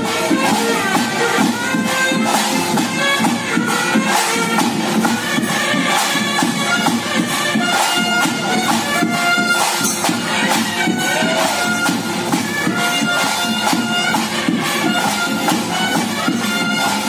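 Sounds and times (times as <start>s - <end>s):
continuous drumming: 0.0s - 17.0s
double-reed pipe melody: 0.0s - 17.0s.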